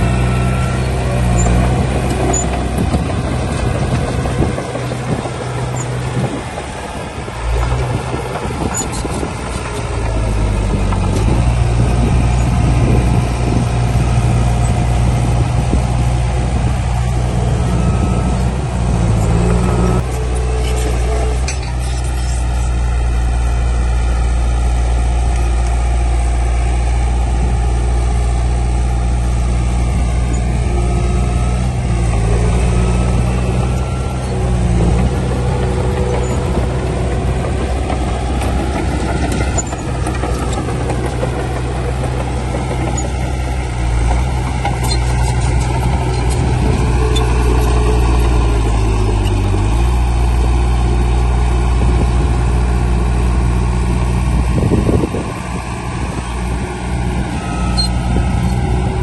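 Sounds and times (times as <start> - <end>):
heavy diesel engines of earthmovers: 0.0 - 59.0.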